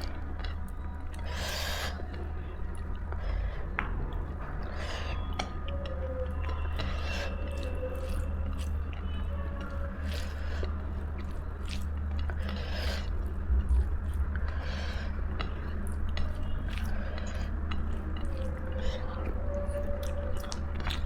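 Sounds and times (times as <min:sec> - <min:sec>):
person chewing food: 0:00.0 - 0:21.0
steady low hum: 0:00.0 - 0:21.0.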